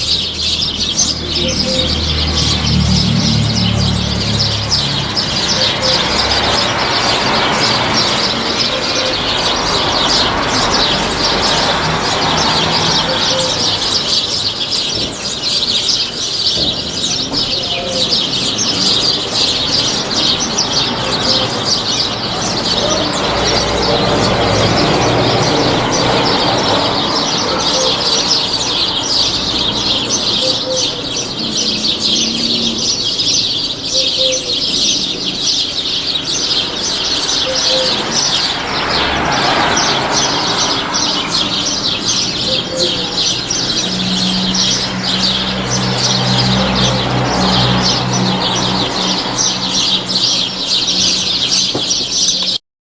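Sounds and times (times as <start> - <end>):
small birds chirping: 0.0 - 52.6.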